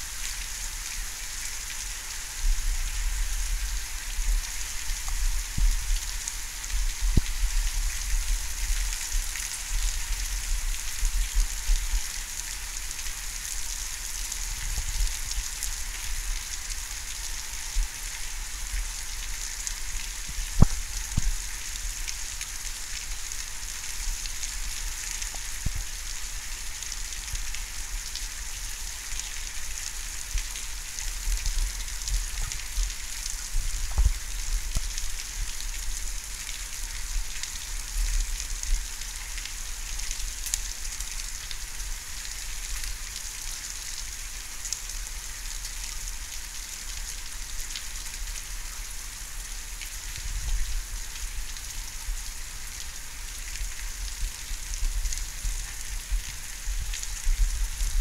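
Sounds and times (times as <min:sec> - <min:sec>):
rain falling steadily: 0:00.0 - 0:58.0.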